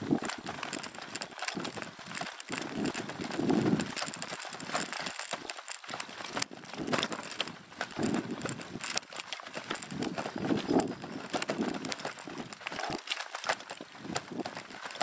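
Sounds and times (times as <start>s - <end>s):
bicycle tyres rolling on dirt: 0.0s - 15.0s
bike rattling and knocking: 0.0s - 15.0s.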